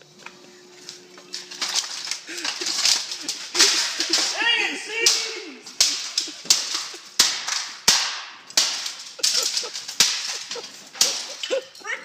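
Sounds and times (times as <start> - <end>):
fax machine smashed with blows: 1.3 - 11.6.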